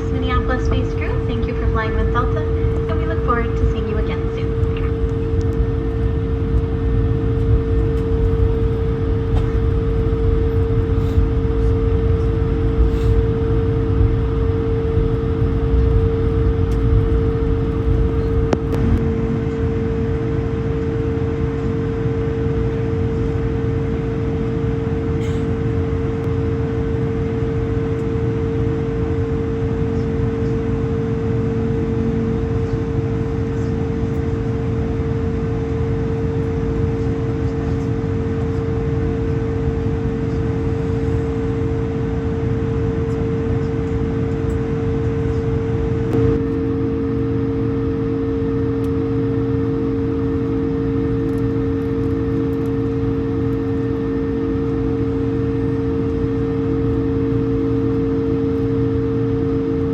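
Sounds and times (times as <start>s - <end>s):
aircraft cabin rumble while taxiing: 0.0s - 31.0s, 32.2s - 58.8s.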